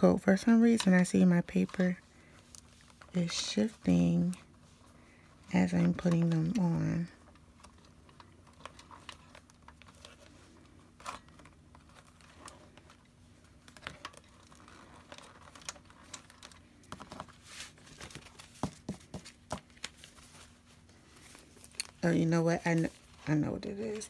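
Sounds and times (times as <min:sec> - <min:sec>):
paper rustling: 0:00.7 - 0:24.0.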